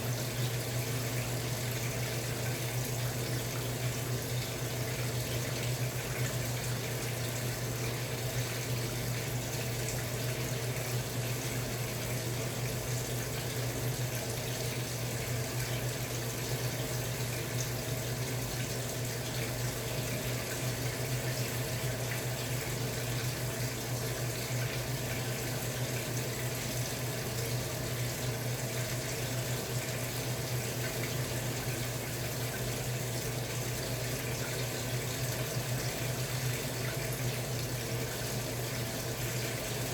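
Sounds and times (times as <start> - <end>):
washing machine water rushing: 0.0 - 39.9.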